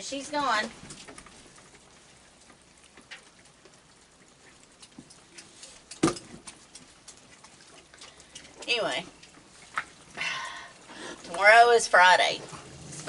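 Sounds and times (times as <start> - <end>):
light rain patter: 0.0 - 13.0
scattered drips: 0.0 - 13.0.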